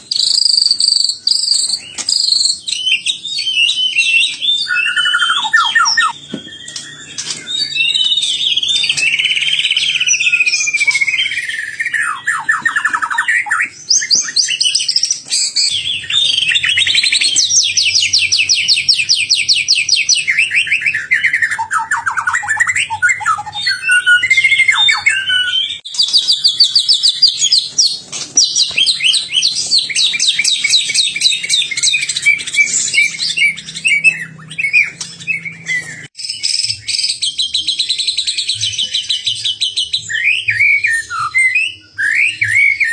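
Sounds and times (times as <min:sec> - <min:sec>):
songbird singing fast trills: 0:00.0 - 0:42.9.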